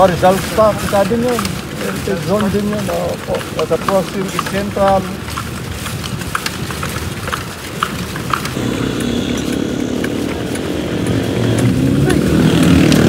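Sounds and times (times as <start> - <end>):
horse hooves on pavement: 0.0 - 13.0
motorcycle engine humming: 0.0 - 13.0.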